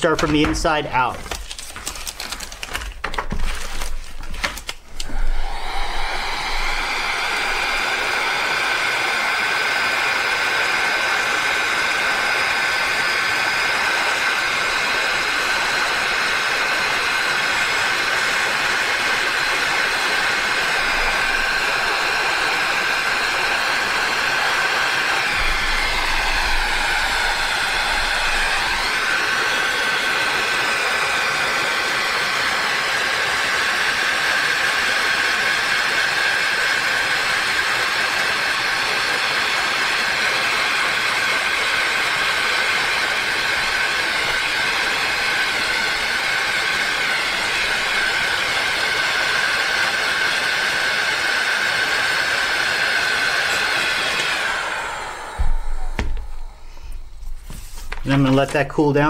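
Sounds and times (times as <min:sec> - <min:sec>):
heat gun fan whining: 0:00.0 - 0:59.0.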